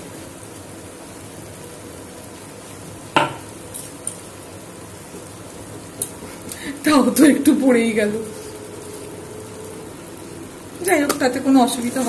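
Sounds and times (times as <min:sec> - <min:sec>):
mixture sizzling in a pan: 0:00.0 - 0:12.0.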